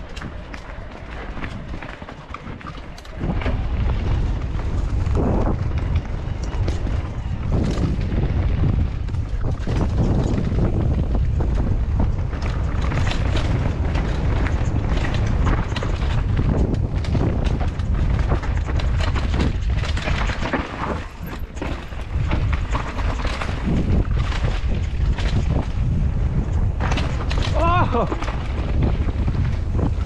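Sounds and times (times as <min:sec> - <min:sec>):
bike rattling over bumps: 0:00.0 - 0:30.0
bike tyres on dirt: 0:00.0 - 0:30.0
wind buffeting microphone: 0:00.0 - 0:30.0.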